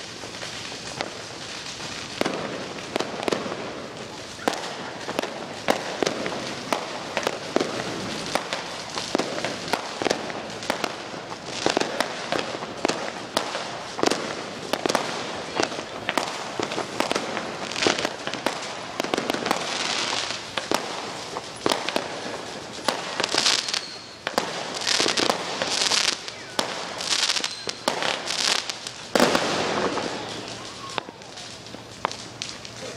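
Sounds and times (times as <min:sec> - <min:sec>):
fireworks banging and crackling: 0:00.0 - 0:32.9
fireworks hissing: 0:00.0 - 0:32.9.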